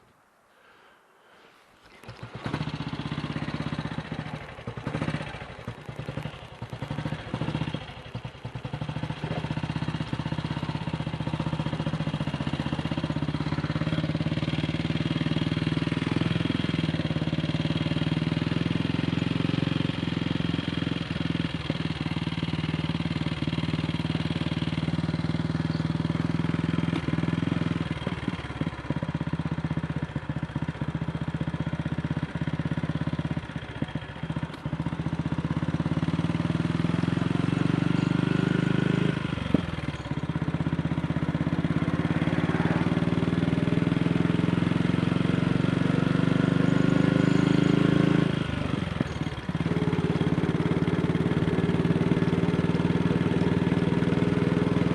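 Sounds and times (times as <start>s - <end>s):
motorcycle engine running: 1.8s - 54.9s.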